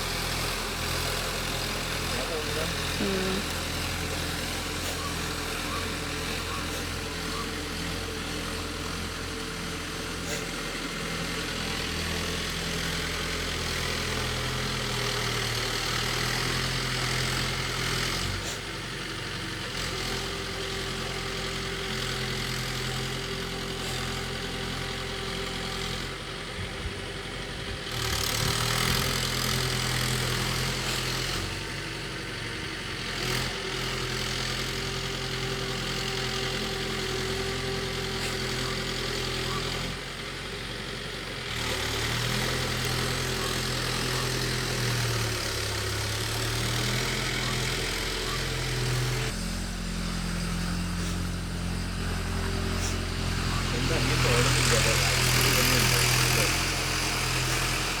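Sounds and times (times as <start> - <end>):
ploughing machine engine: 0.0 - 58.0.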